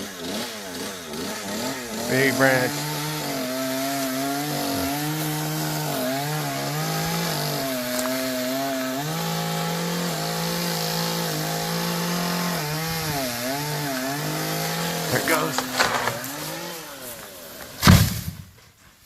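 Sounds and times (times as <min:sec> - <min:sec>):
chainsaw cutting wood: 0:00.0 - 0:18.6.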